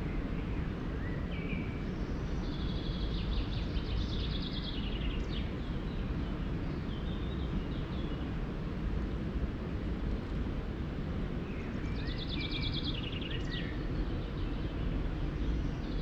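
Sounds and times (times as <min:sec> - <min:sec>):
songbird singing: 0:00.0 - 0:08.4, 0:11.4 - 0:16.0
low rushing background noise: 0:00.0 - 0:16.0.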